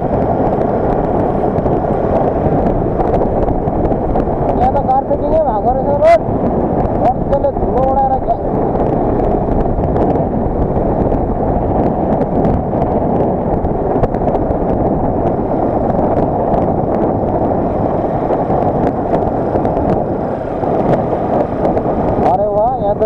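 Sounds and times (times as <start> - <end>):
motorcycle running: 0.0 - 23.0
wind rushing over microphone: 0.0 - 23.0.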